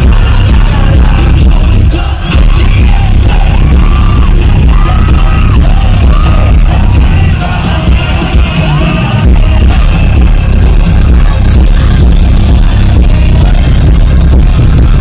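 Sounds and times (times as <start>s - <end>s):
live pop song over loudspeakers: 0.0s - 15.0s.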